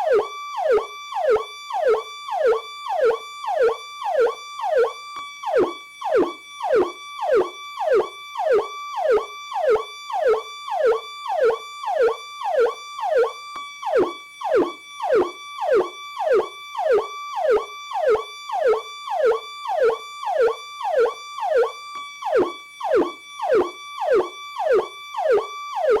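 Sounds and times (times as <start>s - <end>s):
electronic police siren: 0.0s - 26.0s.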